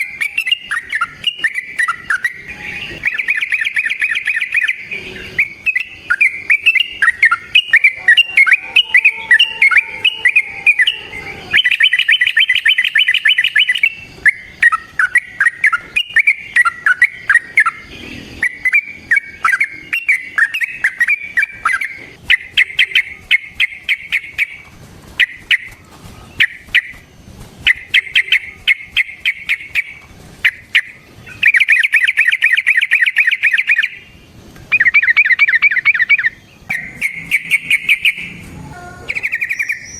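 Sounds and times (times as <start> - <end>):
bird singing with trills: 0.0 - 39.9.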